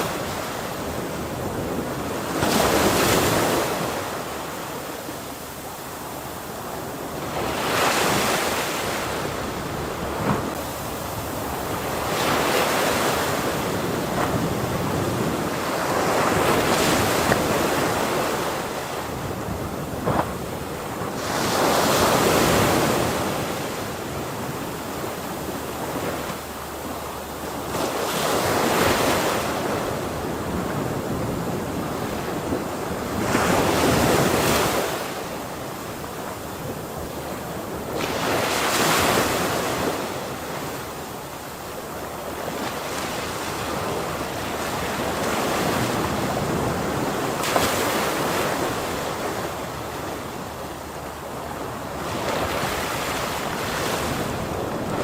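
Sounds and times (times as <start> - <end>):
ocean waves breaking: 0.0 - 55.0
wind noise on microphone: 0.0 - 55.0.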